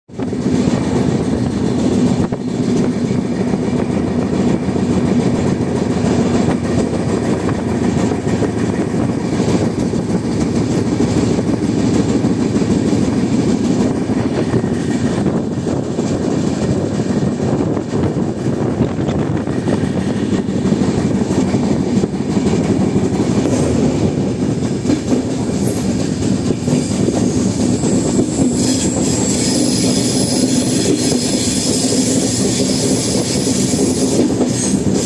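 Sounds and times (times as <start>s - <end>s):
train wheels rumbling on rails: 0.1s - 35.0s.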